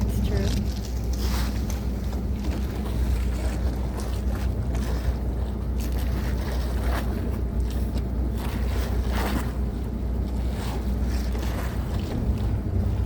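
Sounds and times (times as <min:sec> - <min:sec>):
boat engine droning: 0:00.0 - 0:13.0
rushing water and wind: 0:00.0 - 0:13.0.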